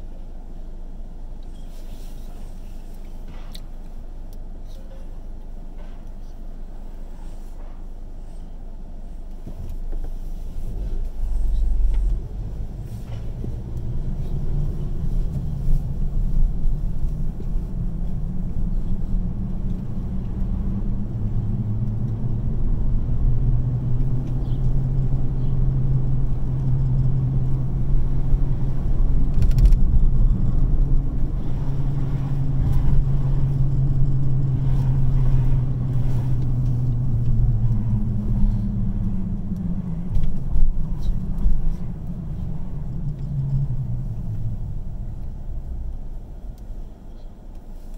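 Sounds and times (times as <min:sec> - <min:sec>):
car engine and tyres rumbling: 0:00.0 - 0:47.9.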